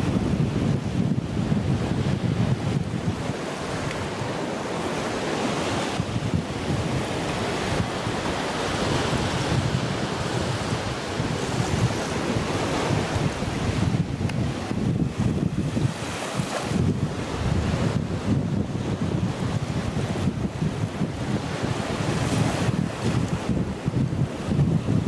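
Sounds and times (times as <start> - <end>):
ocean surf washing onto beach: 0.0 - 25.0
wind buffeting microphone: 0.0 - 25.0.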